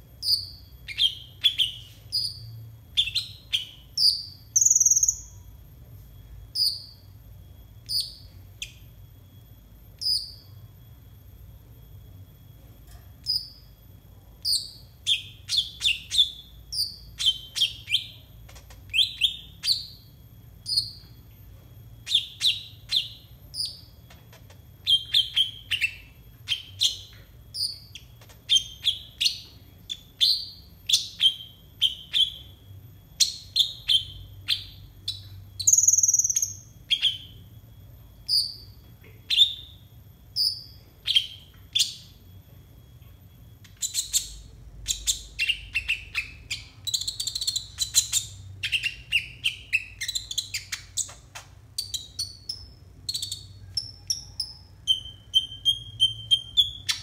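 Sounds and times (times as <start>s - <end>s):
bird chirping: 0.2s - 5.6s, 6.4s - 9.1s, 9.9s - 10.8s, 13.2s - 13.8s, 14.4s - 21.4s, 22.0s - 42.3s, 43.0s - 57.0s.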